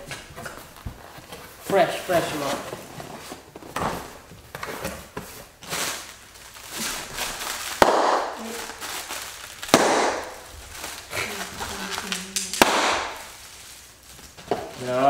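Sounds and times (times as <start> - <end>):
plastic crinkling: 0.0 - 15.0
packing pillows popping: 2.5 - 15.0.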